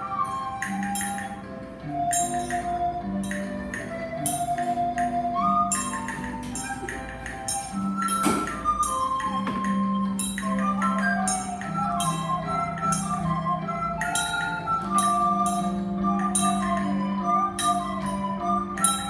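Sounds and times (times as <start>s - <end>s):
instrumental melody: 0.0s - 19.0s
percussion strikes: 0.0s - 19.0s.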